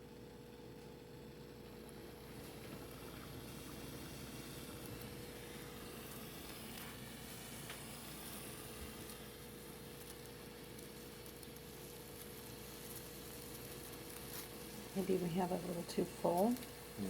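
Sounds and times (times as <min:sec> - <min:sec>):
faint steady sizzle of percolator: 0:00.0 - 0:17.0.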